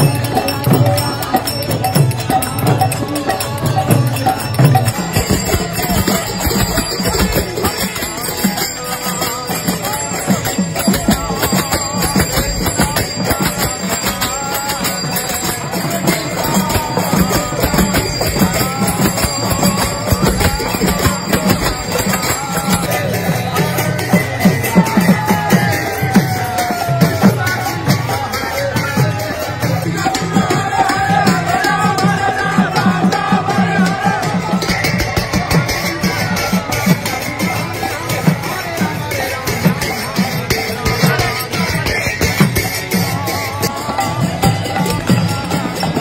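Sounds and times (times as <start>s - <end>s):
barrel drum beat: 0.0s - 46.0s
devotional chanting into microphone: 0.0s - 46.0s
jingling hand percussion: 0.0s - 46.0s.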